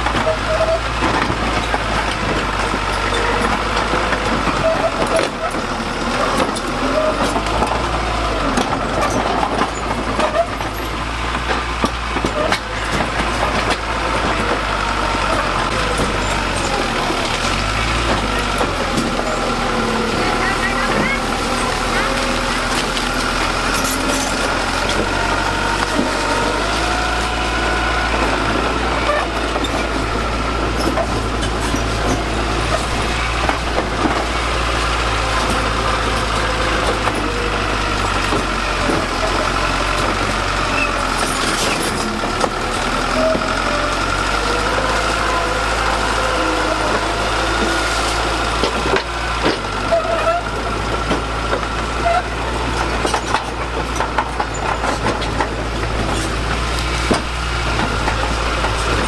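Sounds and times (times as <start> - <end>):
diesel engine running: 0.0 - 59.0
knocks and clanks: 0.0 - 59.0.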